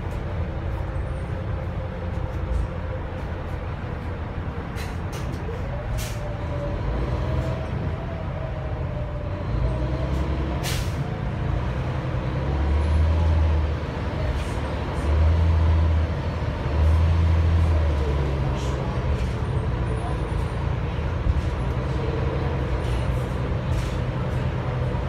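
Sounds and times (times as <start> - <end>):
bus engine drone: 0.0 - 25.0
road noise: 0.0 - 25.0.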